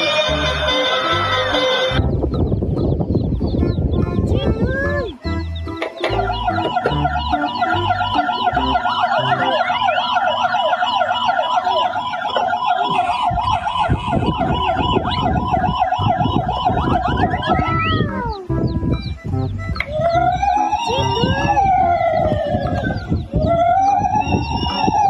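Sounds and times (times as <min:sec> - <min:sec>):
siren yelping: 0:00.0 - 0:02.0, 0:06.0 - 0:25.0.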